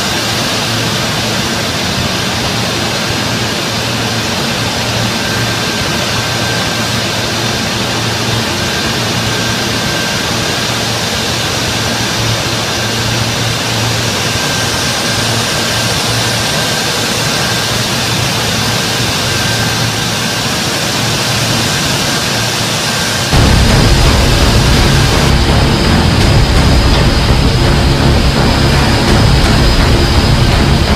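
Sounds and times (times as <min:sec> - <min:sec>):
faint high whine: 0:00.0 - 0:30.9
machinery low hum: 0:00.0 - 0:30.9
spinning machinery hissing: 0:00.0 - 0:30.9.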